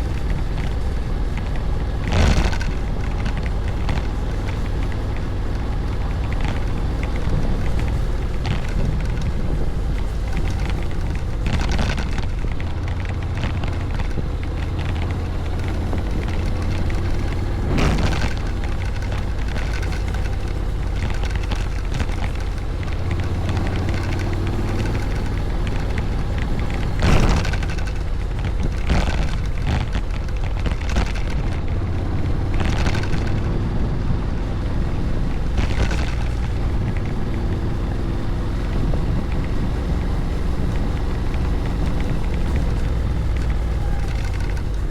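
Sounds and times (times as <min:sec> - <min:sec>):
scooter engine hum: 0:00.0 - 0:44.9
wind rush on microphone: 0:00.0 - 0:44.9.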